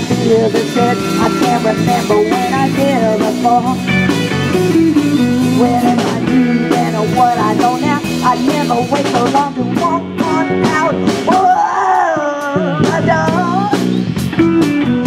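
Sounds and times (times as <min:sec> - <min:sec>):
woman singing: 0:00.0 - 0:04.0, 0:04.8 - 0:13.8
drum kit: 0:00.0 - 0:15.0
electric bass: 0:00.0 - 0:15.0
electric guitars: 0:00.0 - 0:15.0.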